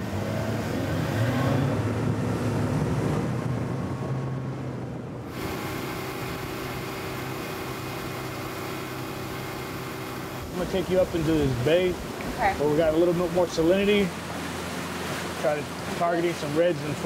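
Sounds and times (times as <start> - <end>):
outboard motor running hard: 0.0 - 17.0
wind and water rushing: 0.0 - 17.0.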